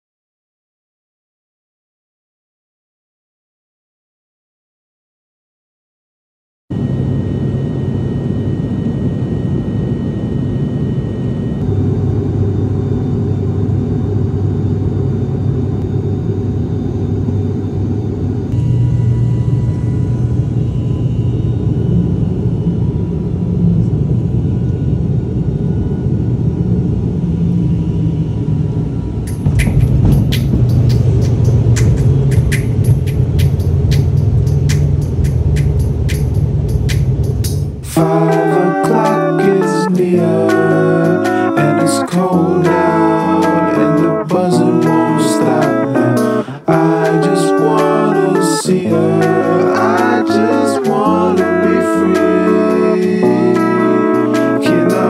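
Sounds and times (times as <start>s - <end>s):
faint steady whine: 6.7s - 55.0s
vehicle engine drone: 6.8s - 55.0s.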